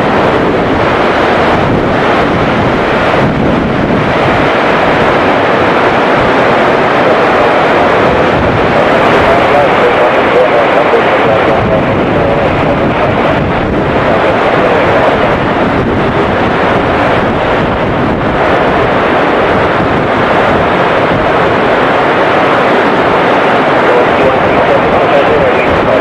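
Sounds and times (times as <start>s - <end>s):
heavy rain: 0.0s - 26.0s
wind buffeting microphone: 0.0s - 26.0s.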